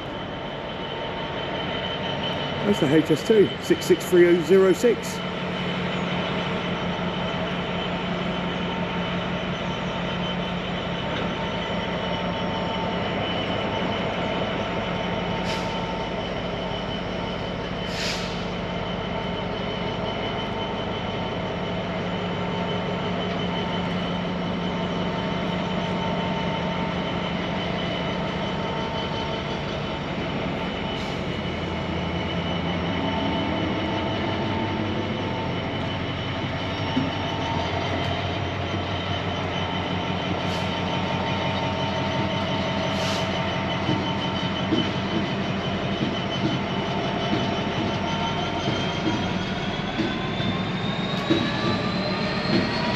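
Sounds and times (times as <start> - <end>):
diesel engine tone: 0.0 - 52.9
freight train rumbling past: 0.0 - 52.9.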